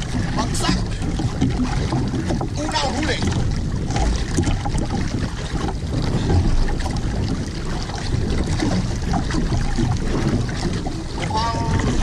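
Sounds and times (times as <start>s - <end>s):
waves splashing against boat hull: 0.0s - 12.0s
wind buffeting microphone: 0.0s - 12.0s.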